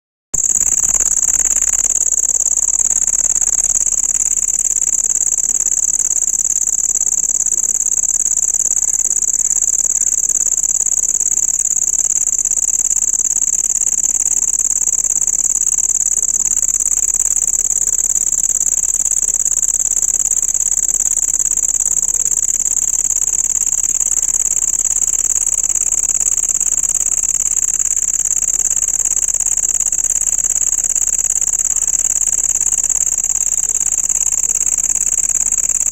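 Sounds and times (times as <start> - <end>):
cricket trilling: 0.4 - 35.9.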